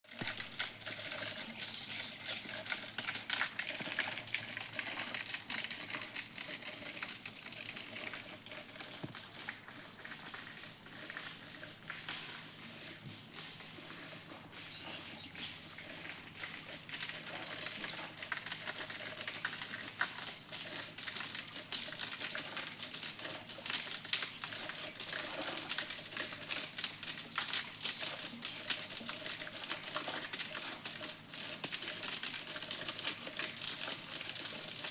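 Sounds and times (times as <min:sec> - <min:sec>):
small waterfall splashing: 0:00.0 - 0:34.9.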